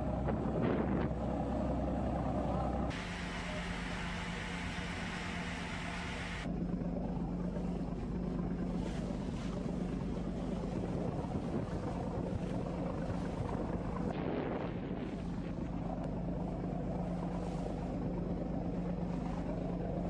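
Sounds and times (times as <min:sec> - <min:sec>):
wind and water hiss: 0:00.0 - 0:06.5, 0:07.8 - 0:20.0
boat engine droning: 0:00.0 - 0:20.0.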